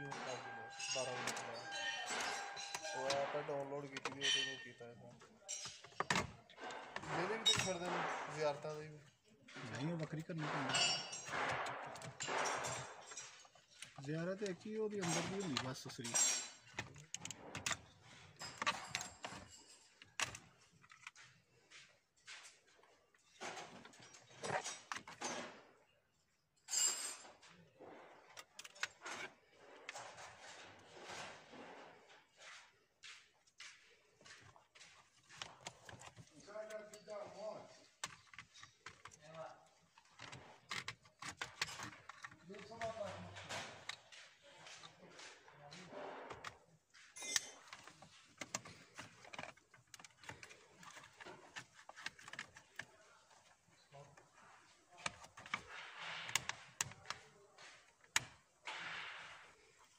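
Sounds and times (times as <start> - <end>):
plastic clicks and rattles: 0.0 - 4.6, 5.5 - 8.6, 9.7 - 21.4, 23.2 - 25.6, 28.2 - 31.7, 34.2 - 46.6, 47.2 - 59.9
plastic parts knocking: 0.0 - 4.7, 5.5 - 8.9, 9.5 - 21.4, 23.2 - 25.6, 34.1 - 59.9
plastic parts rustling: 0.0 - 25.7, 26.7 - 32.6, 33.8 - 59.9.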